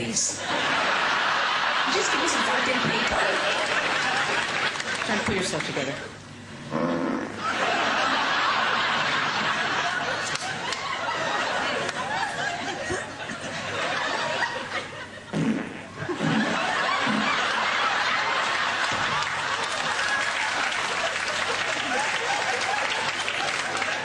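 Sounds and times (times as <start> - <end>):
audience laughing: 0.4 - 5.8, 7.4 - 15.3, 15.9 - 24.0.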